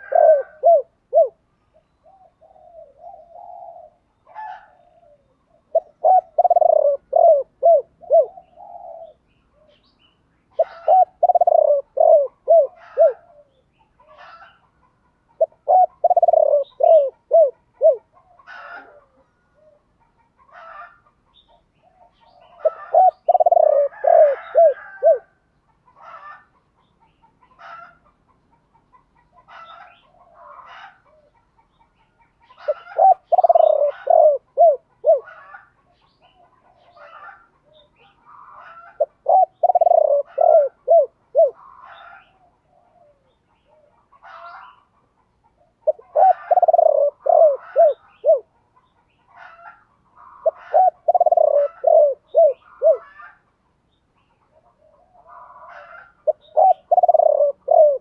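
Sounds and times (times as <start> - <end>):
dove cooing: 0.0 - 9.9, 10.5 - 26.5, 29.0 - 31.6, 32.2 - 48.6, 49.3 - 53.4, 54.4 - 58.0.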